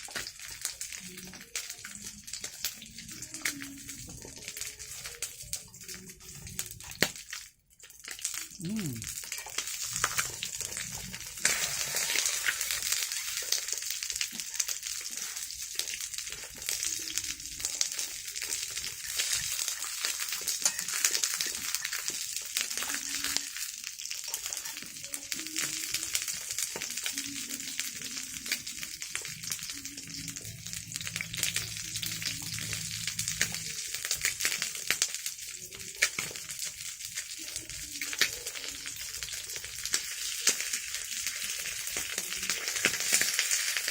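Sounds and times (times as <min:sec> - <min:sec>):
food sizzling in hot oil: 0:00.0 - 0:43.9.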